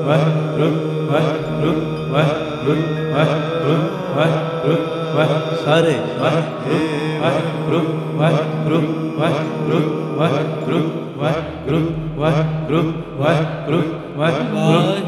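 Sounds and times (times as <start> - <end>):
devotional hymn singing: 0.0 - 15.0
steady drone: 0.0 - 15.0.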